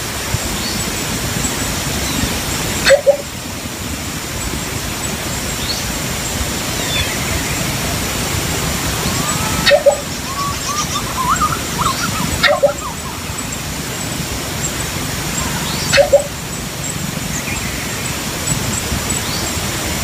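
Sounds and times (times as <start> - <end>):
steady hiss: 0.0 - 20.0
bird low calls: 1.8 - 3.4, 4.4 - 20.0
soft chirping notes: 2.0 - 3.4, 4.4 - 19.7.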